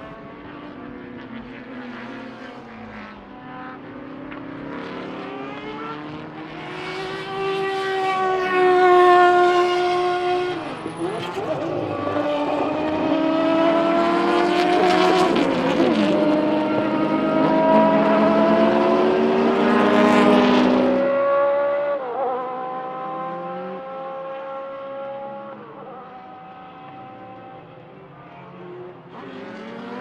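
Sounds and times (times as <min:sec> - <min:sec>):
racing car engines accelerating: 0:00.0 - 0:30.0.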